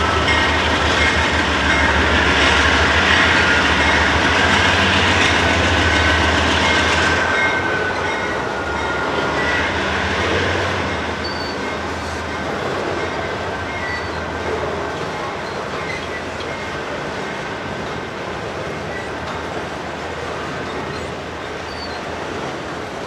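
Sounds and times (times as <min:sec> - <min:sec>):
diesel locomotive engine drone: 0:00.0 - 0:23.0
train wheel noise: 0:00.0 - 0:23.0.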